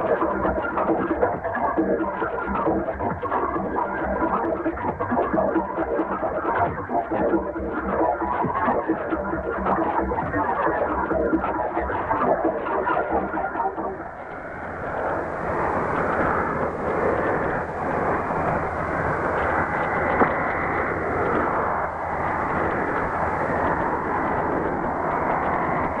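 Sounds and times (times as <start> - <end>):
muffled radio static hiss: 0.0 - 26.0.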